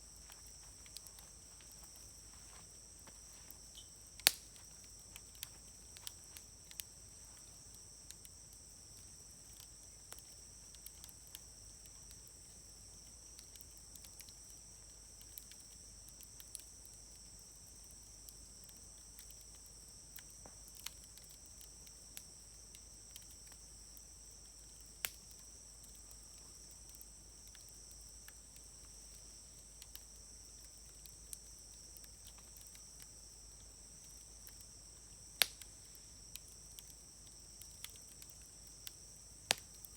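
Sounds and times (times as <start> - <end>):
insects chirring: 0.0 - 39.9
wood fire crackling: 0.0 - 39.9.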